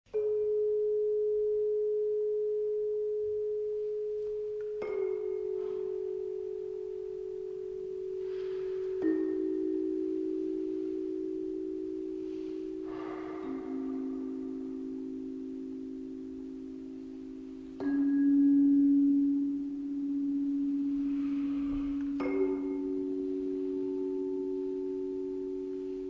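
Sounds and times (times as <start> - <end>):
bell-like ringing tones: 0.1 - 26.0.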